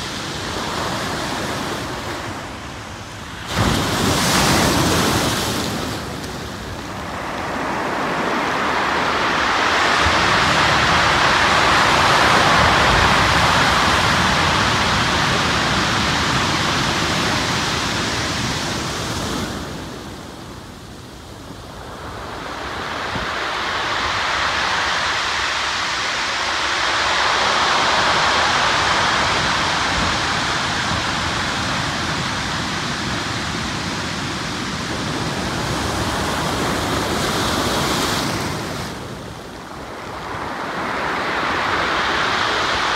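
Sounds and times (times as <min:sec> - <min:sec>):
surf washing over pebble beach: 0:00.0 - 0:42.9.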